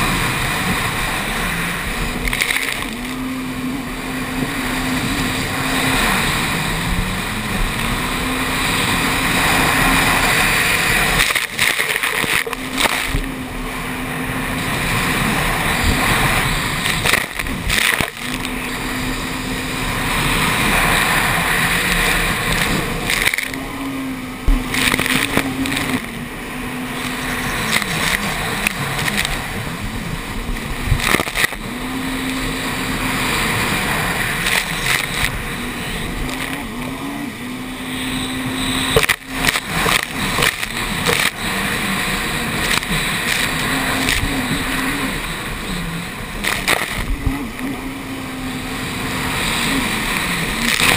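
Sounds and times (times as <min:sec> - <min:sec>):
jet ski engine revving: 0:00.0 - 0:50.9
rushing water and spray: 0:00.0 - 0:50.9.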